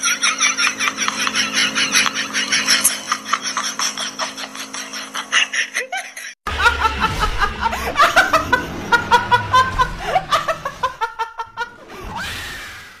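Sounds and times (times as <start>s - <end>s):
woman laughing hard: 0.0s - 11.8s.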